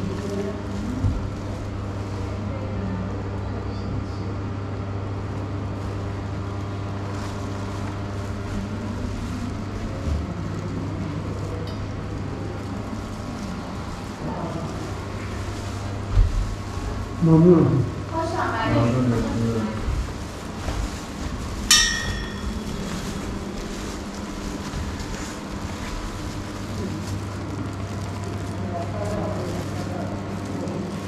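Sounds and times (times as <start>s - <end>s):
steady low machine hum: 0.0s - 31.0s.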